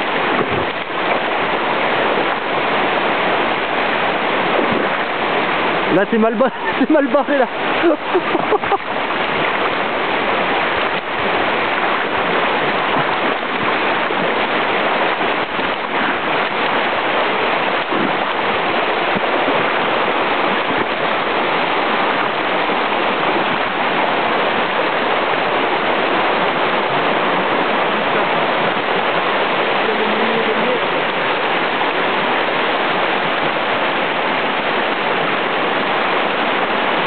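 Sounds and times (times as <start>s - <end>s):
river rapids rushing over rocks: 0.0s - 37.0s.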